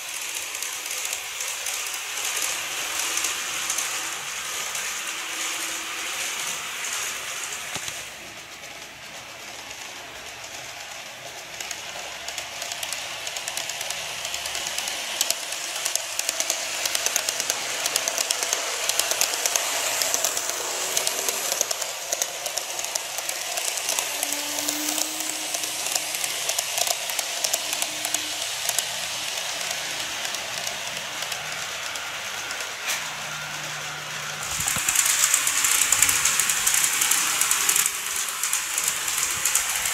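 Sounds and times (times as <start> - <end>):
model train wheels clicking on rails: 0.0 - 39.9.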